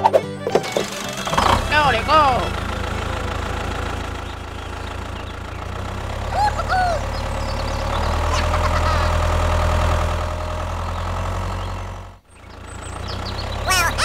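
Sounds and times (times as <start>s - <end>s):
tractor engine idling: 0.4s - 14.0s.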